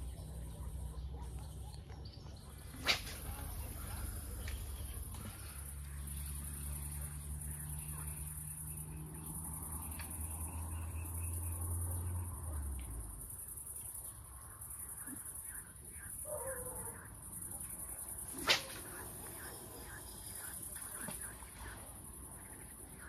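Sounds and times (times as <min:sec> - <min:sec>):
bird calls: 0:00.0 - 0:12.2, 0:13.8 - 0:23.0
crickets chirring: 0:00.0 - 0:23.0.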